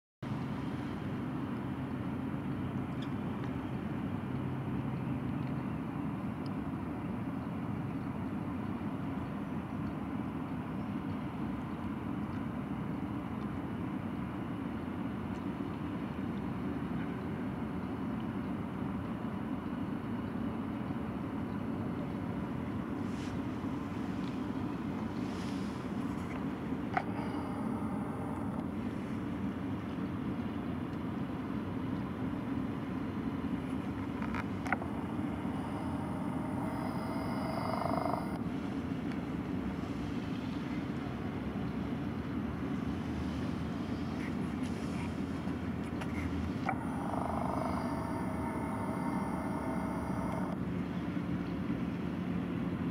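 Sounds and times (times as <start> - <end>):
boat engine droning: 6.0 - 52.9.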